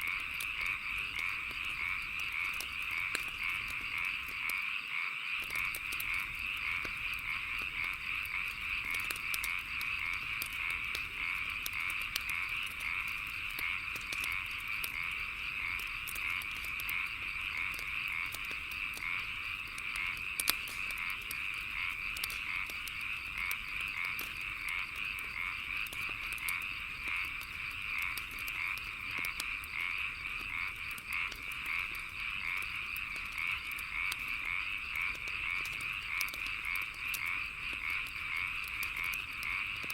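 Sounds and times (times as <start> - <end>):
chorus of frogs calling: 0.0 - 39.9
wood fire crackling and popping: 0.0 - 39.9.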